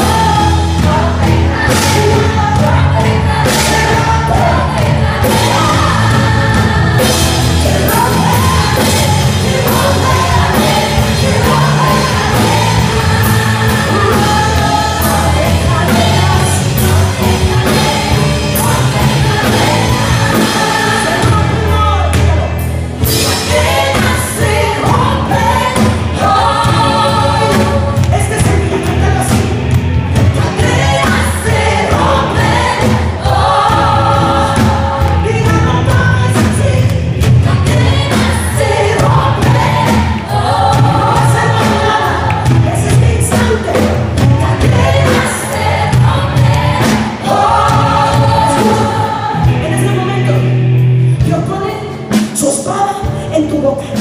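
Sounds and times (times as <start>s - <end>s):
women singing: 0.0s - 29.5s, 30.3s - 50.4s
worship band playing: 0.0s - 54.0s.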